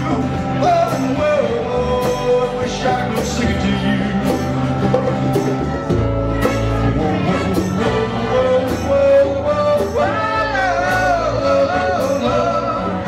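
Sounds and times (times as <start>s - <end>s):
man singing: 0.0s - 5.0s, 6.5s - 13.0s
live rock band playing: 0.0s - 13.0s.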